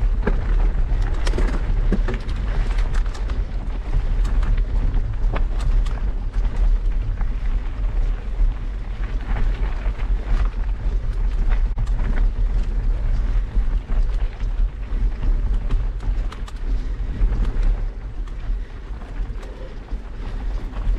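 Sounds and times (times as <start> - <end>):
bike tyres crunching on stony track: 0.0 - 20.9
wind buffeting microphone: 0.0 - 20.9.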